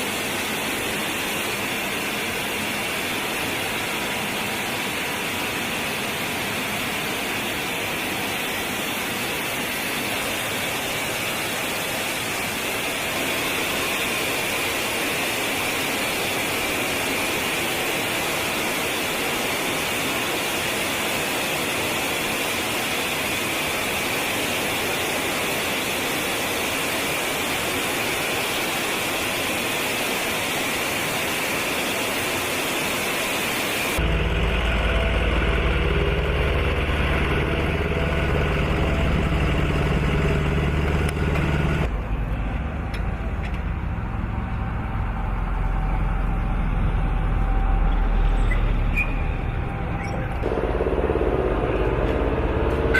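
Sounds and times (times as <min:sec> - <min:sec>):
jet engine roar: 0:00.0 - 0:52.9.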